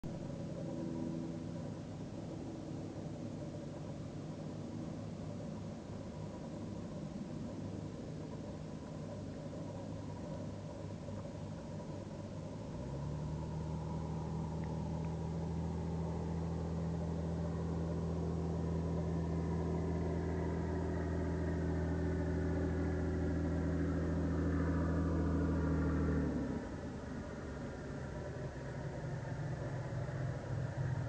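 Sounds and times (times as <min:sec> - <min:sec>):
propeller plane engine running: 0:00.0 - 0:31.0.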